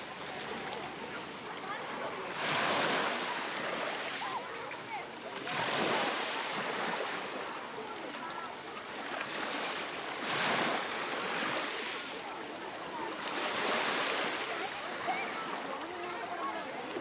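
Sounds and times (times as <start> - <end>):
faint voices of people: 0.0 - 17.0
small waves washing on beach: 0.0 - 17.0.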